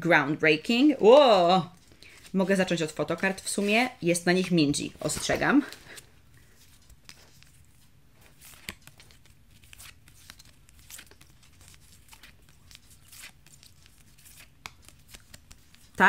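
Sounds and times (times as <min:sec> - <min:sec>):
photocards rustling and clicking: 0:01.7 - 0:16.0.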